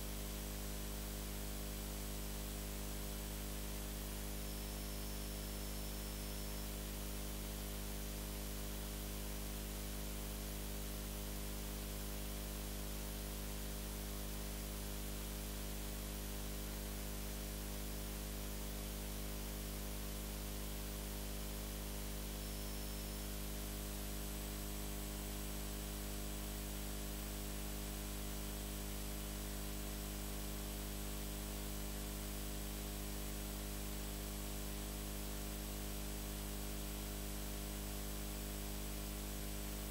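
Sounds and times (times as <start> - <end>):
faint high whine: 0.0 - 39.9
low mains hum: 0.0 - 39.9.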